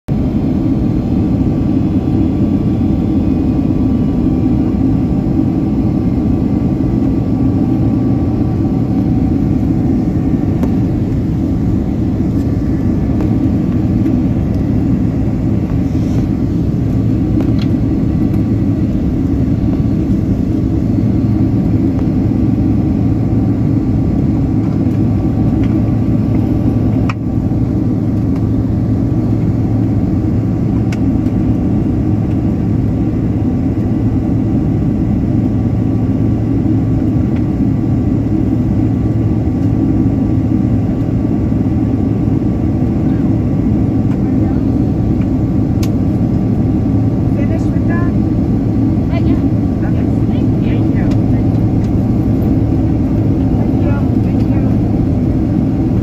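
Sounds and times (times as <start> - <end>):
jet engine rumble in cabin: 0.1 - 56.0.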